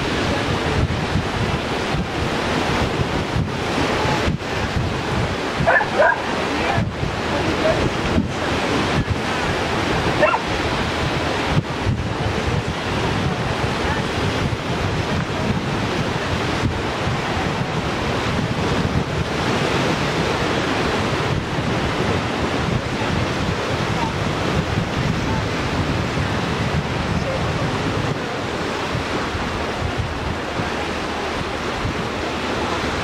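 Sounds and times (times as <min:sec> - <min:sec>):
sea surf on rocky shore: 0:00.0 - 0:33.0
wind rumbling on microphone: 0:00.0 - 0:33.0.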